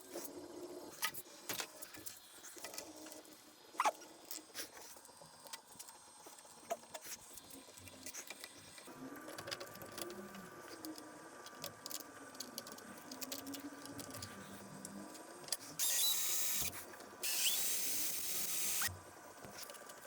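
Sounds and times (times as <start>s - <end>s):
faint mechanical whirring: 0.0s - 20.0s.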